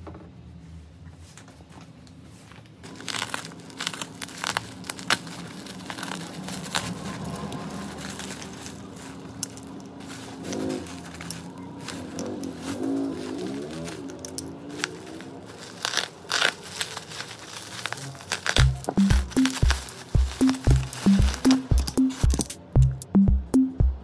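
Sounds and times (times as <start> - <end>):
crinkling and clicking handling: 1.2 - 22.8.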